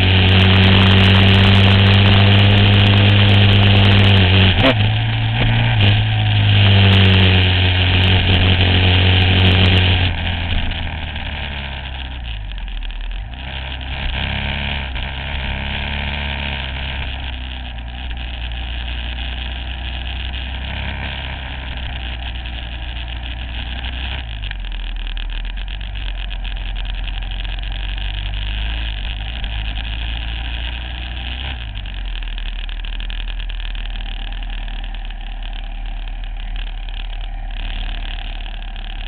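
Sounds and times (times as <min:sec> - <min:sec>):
motorcycle engine at low revs: 0:00.0 - 0:39.0.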